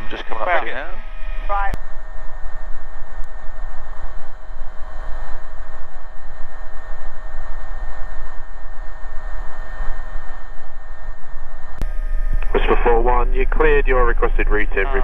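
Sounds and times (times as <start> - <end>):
helicopter cabin noise: 0.0 - 9.6, 11.8 - 15.0.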